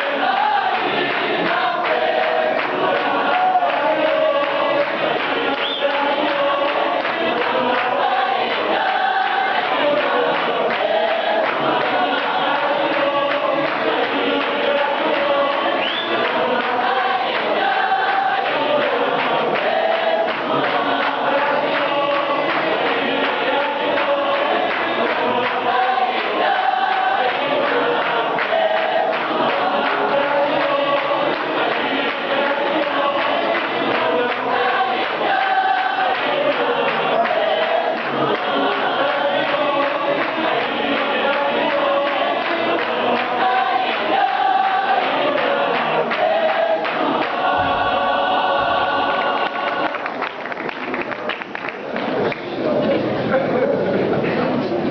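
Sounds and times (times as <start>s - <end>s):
choir singing in harmony: 0.0s - 50.5s
rhythmic clapping and tapping: 0.0s - 53.1s.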